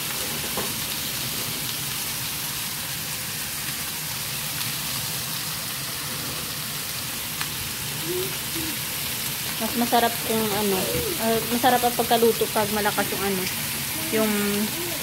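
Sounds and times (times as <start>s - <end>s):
steaks sizzling in skillets: 0.0s - 15.0s.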